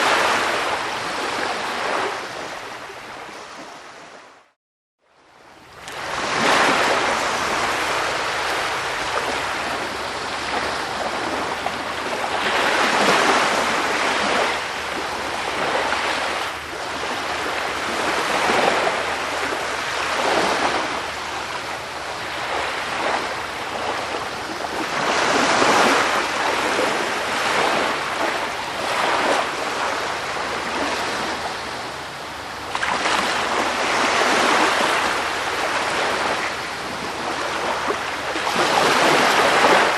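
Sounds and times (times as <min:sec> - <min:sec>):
sea waves washing in: 0:00.0 - 0:04.5, 0:05.6 - 0:39.9.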